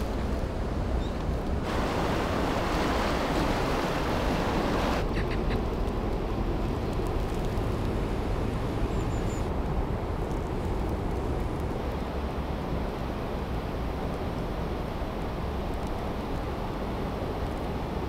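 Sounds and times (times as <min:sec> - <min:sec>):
river water over rapids: 0:00.0 - 0:18.0
wind rumbling on microphone: 0:00.0 - 0:18.0.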